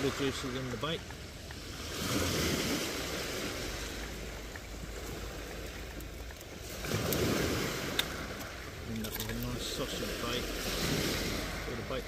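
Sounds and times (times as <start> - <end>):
waves washing onto shingle: 0.0 - 12.0
wind rumble on microphone: 0.0 - 12.0.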